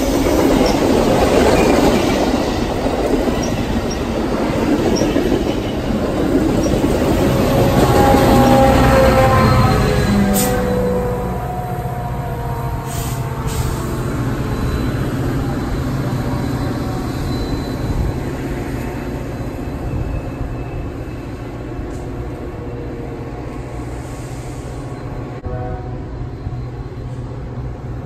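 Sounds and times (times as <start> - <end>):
diesel locomotive rumble: 0.0 - 28.0.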